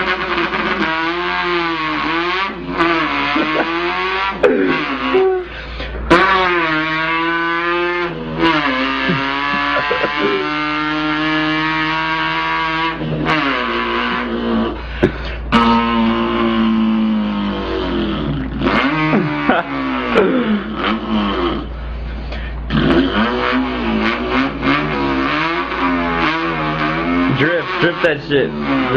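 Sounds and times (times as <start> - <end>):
man imitating engine revving: 0.0 - 28.9.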